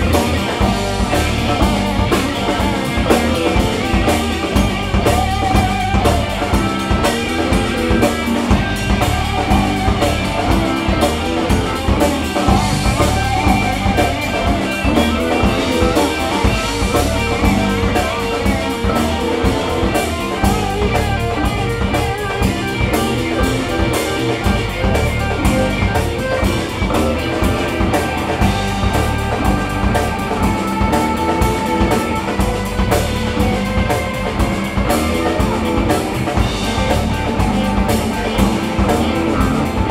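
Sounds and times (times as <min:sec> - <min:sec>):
bass guitar: 0:00.0 - 0:39.9
drum kit beat: 0:00.0 - 0:39.9
guitars: 0:00.0 - 0:39.9.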